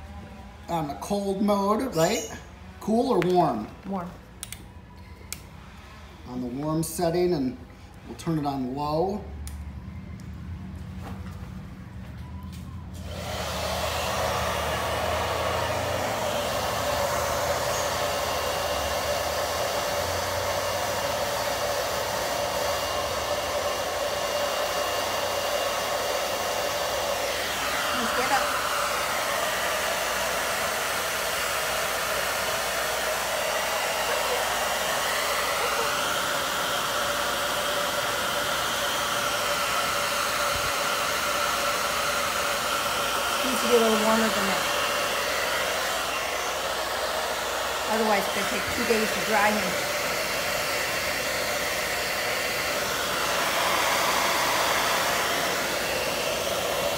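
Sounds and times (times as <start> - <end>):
hair dryer running: 0.0 - 4.6, 12.5 - 56.9.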